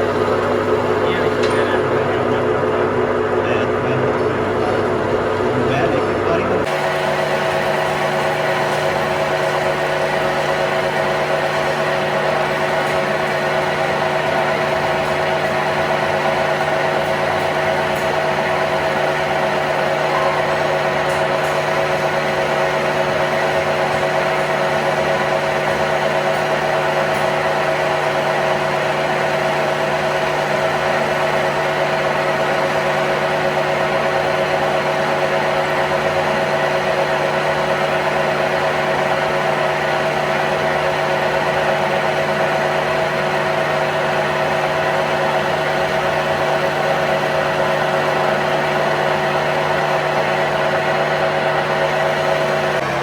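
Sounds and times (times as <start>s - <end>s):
machine humming and whirring: 0.0s - 53.0s.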